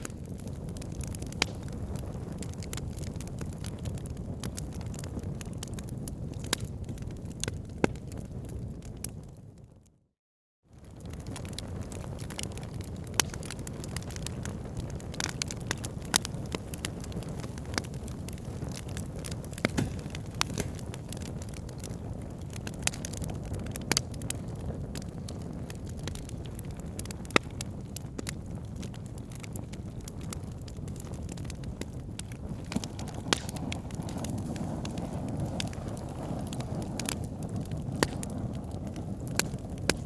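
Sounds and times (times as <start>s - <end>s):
fire crackling in a fireplace: 0.0s - 10.0s, 10.7s - 40.0s.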